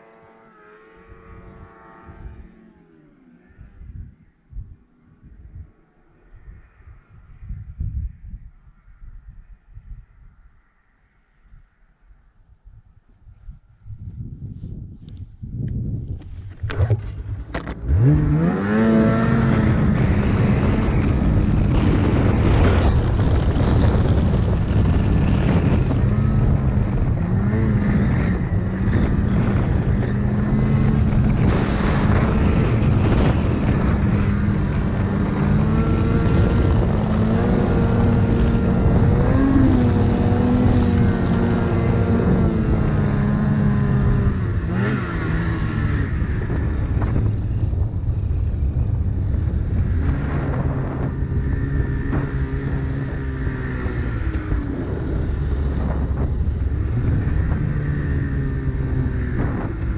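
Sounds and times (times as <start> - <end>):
snowmobile engine revving: 0.0 - 6.6, 16.2 - 59.9.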